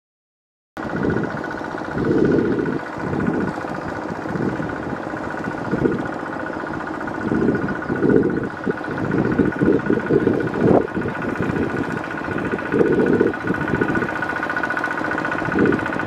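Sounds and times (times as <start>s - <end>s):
diesel tractor engine running: 0.8s - 16.0s
wheels churning through water: 0.8s - 16.0s.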